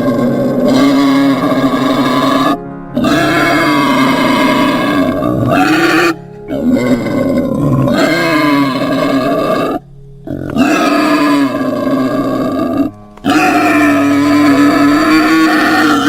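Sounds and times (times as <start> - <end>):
animal grunting calls: 0.0 - 16.0.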